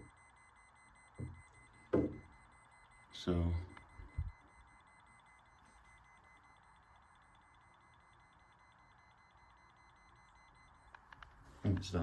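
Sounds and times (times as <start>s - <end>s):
high-pitched pulsing smoke alarm tone: 0.0s - 10.9s.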